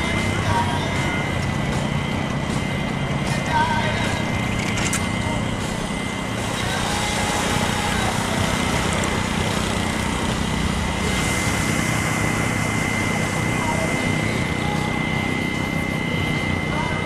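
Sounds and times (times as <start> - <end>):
high-pitched whine: 0.0 - 17.0
mechanical drone: 0.0 - 17.0.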